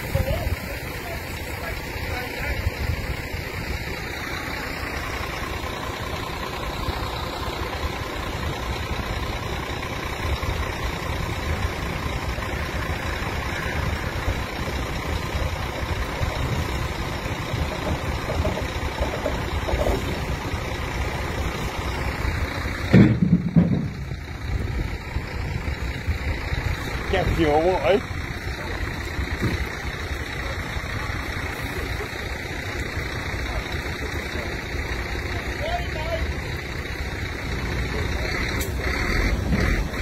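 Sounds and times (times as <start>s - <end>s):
diesel lorry engine idling: 0.0s - 40.0s
low engine burst: 0.0s - 40.0s.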